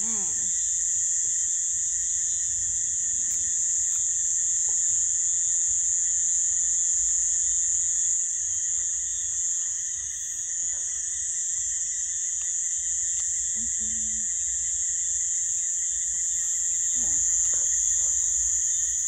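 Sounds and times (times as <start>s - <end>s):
frogs and insects chorus: 0.0s - 19.0s.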